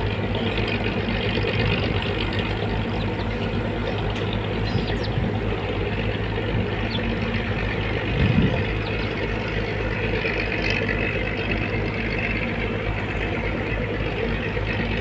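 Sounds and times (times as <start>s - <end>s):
engine droning: 0.0s - 15.0s
low rumble: 0.0s - 15.0s.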